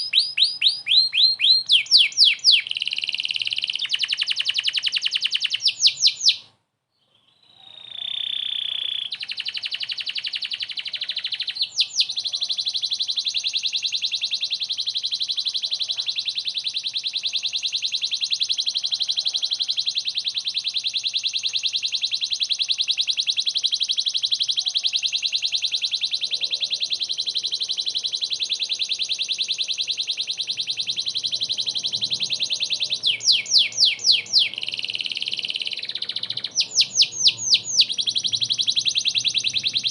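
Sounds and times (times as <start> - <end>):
canary singing fast trill: 0.0 - 39.9.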